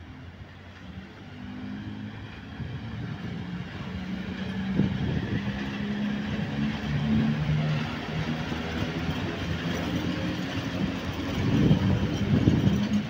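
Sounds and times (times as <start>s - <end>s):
electric locomotive motors humming: 0.1s - 13.0s
train wheel rumble: 0.1s - 13.0s.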